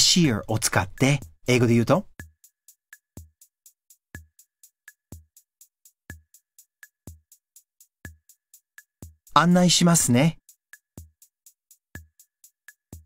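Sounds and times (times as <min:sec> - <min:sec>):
drum machine beat: 0:00.0 - 0:13.0.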